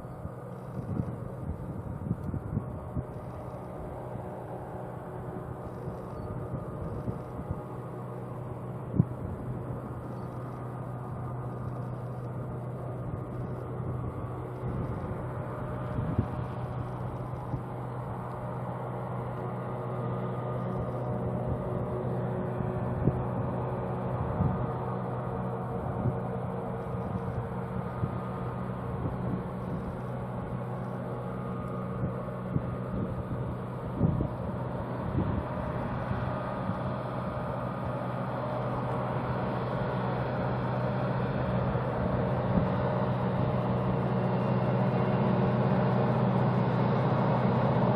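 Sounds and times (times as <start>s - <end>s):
diesel locomotive engine humming: 0.0s - 47.9s.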